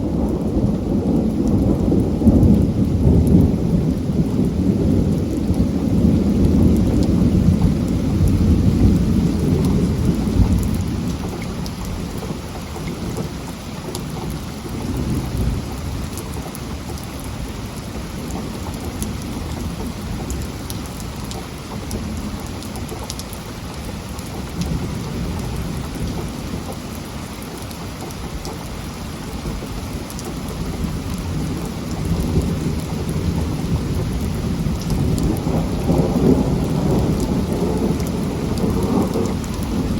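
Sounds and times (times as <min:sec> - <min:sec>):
thunder rumbling: 0:00.0 - 0:26.8, 0:29.3 - 0:39.9
heavy rain falling: 0:00.0 - 0:39.9.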